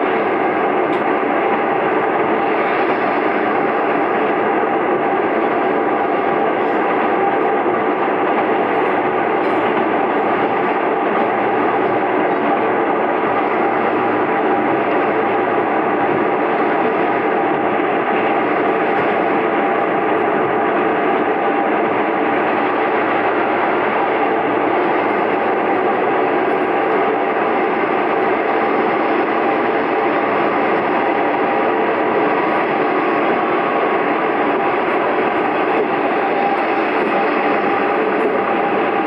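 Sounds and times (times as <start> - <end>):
diesel railcar running: 0.0 - 39.0.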